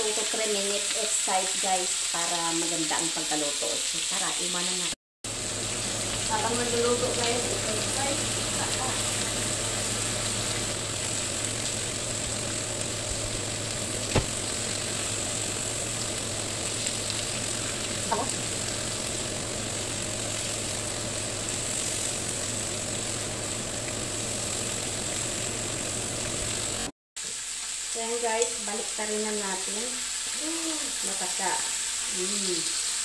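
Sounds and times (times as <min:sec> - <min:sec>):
chicken sizzling on grill pan: 0:00.0 - 0:33.0.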